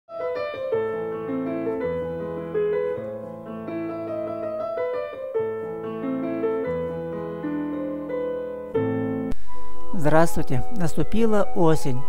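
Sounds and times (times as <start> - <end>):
instrumental music with bass notes: 0.1 - 12.0.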